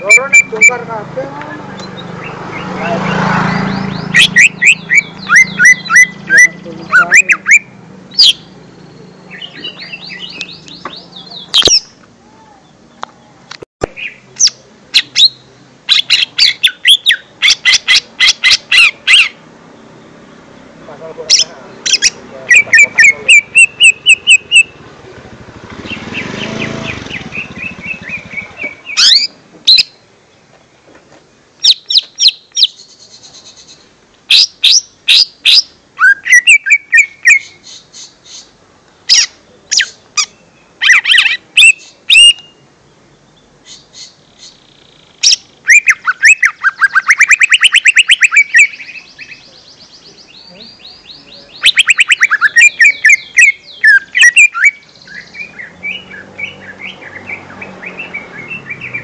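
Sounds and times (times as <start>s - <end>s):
bird singing with chirps and trills: 0.0s - 30.9s, 31.6s - 59.0s.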